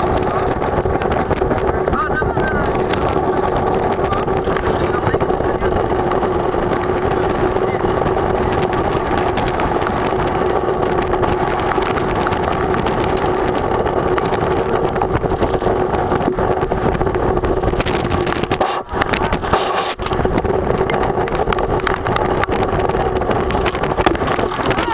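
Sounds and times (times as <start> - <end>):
wind rushing on microphone: 0.0 - 24.9.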